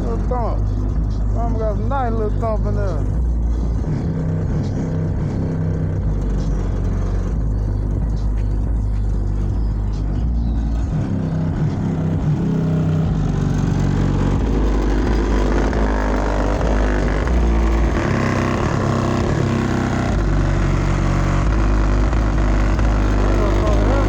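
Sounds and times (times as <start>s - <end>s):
subwoofers playing deep bass music: 0.0s - 24.0s.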